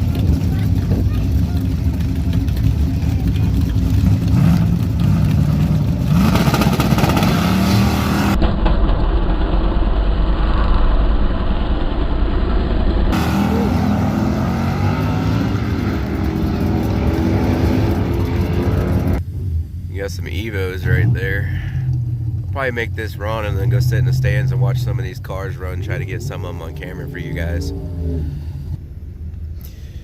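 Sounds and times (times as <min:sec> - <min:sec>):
car engines revving: 0:00.0 - 0:08.4, 0:12.7 - 0:29.0.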